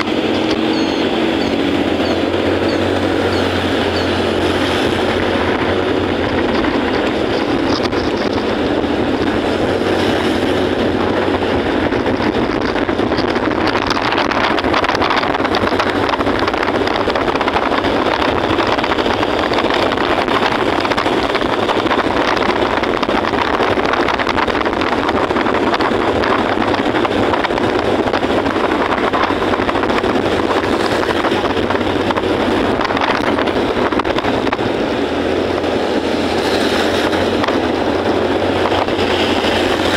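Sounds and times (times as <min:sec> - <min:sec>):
motorcycle engine: 0:00.0 - 0:39.9
road noise: 0:00.0 - 0:39.9
wind rushing over microphone: 0:00.0 - 0:39.9.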